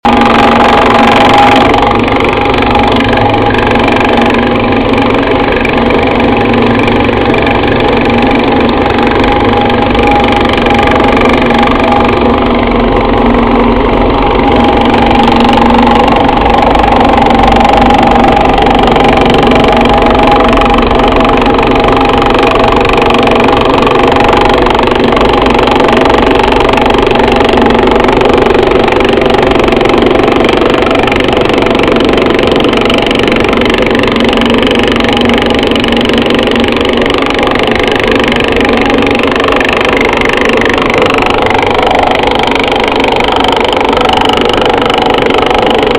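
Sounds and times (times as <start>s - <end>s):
thickness planer running: 0.0s - 45.9s.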